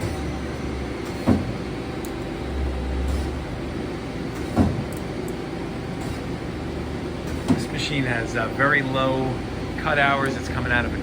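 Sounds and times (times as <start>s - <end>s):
lathe machine humming: 0.0s - 11.0s.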